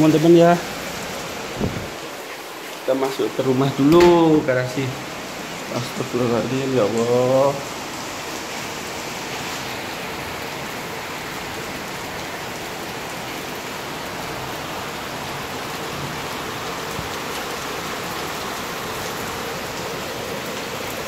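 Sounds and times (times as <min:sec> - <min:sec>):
heavy rain on pavement: 0:00.0 - 0:21.0.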